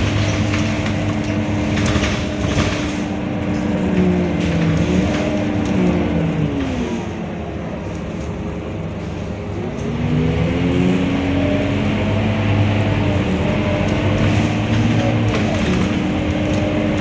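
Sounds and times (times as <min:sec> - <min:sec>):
bus engine accelerating: 0:00.0 - 0:17.0.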